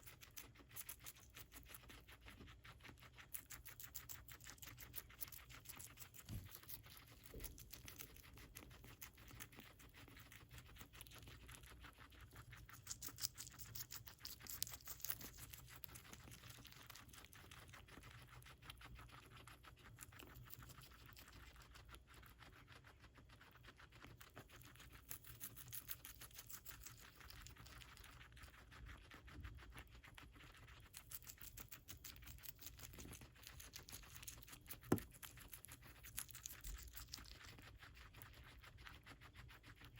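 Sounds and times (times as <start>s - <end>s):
guinea pig chewing lettuce: 0.0s - 39.9s.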